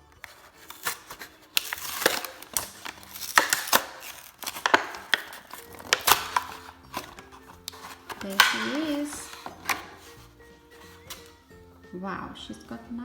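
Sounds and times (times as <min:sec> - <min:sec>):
packaging snapping and clicking: 0:00.0 - 0:11.4
plastic and cardboard crinkling: 0:00.0 - 0:11.6.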